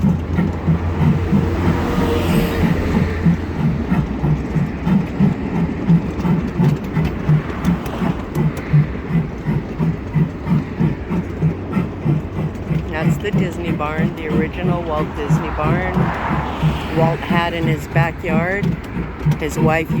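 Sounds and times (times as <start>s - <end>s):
low running hum: 0.0s - 20.0s
miniature train clattering on track: 0.0s - 20.0s.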